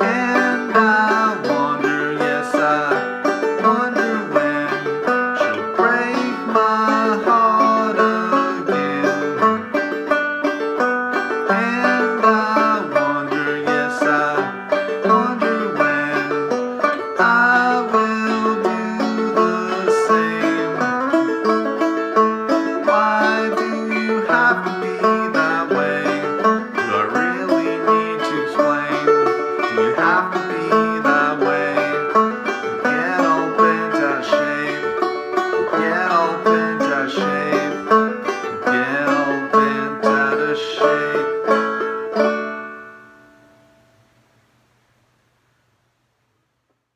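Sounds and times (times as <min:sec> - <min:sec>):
banjo plucked tune: 0:00.0 - 0:43.9.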